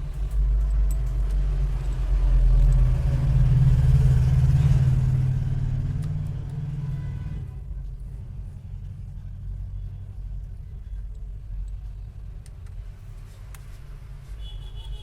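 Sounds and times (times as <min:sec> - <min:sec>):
engine rumble: 0:00.0 - 0:14.5.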